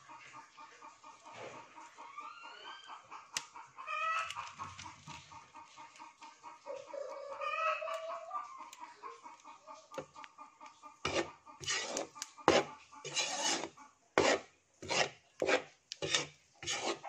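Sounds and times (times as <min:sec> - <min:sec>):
chickens clucking and calling: 0:00.0 - 0:15.4.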